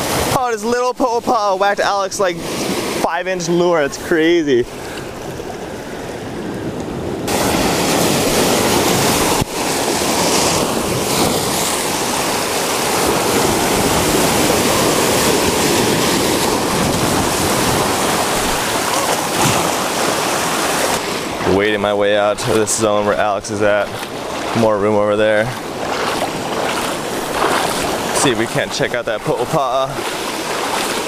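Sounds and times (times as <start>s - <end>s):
surf washing over rocks: 0.0s - 31.0s.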